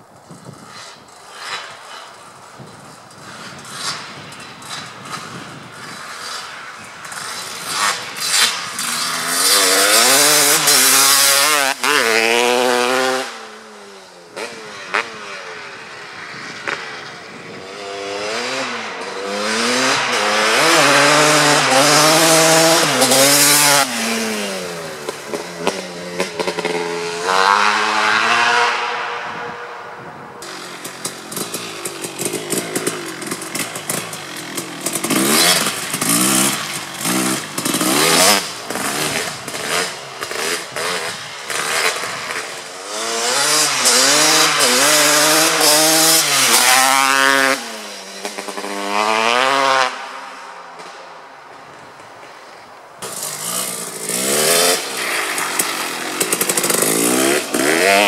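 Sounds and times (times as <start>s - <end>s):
motocross bike revving past: 3.2s - 51.0s, 53.0s - 58.0s.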